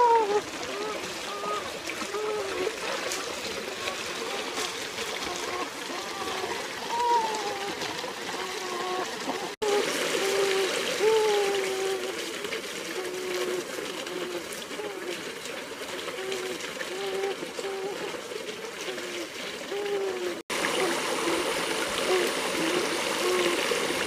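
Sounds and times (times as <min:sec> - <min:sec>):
stream rushing over stones: 0:00.0 - 0:24.0.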